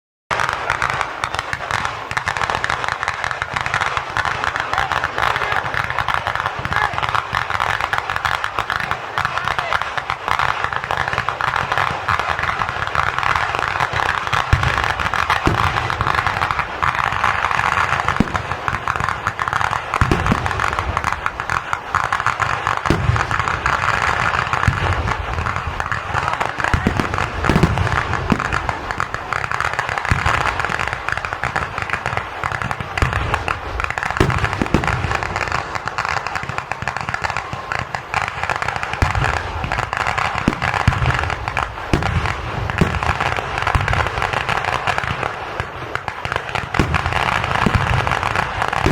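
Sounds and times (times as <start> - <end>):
deep firework booms: 0.3 - 48.9
rattle of firecrackers: 0.3 - 48.9.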